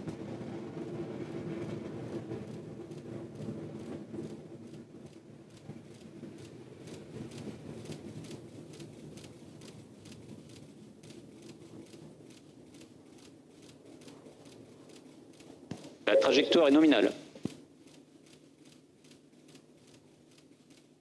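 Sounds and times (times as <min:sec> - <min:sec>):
distant rocket engine rumble: 0:00.0 - 0:21.0
fast faint ticks: 0:00.1 - 0:16.0, 0:17.4 - 0:21.0.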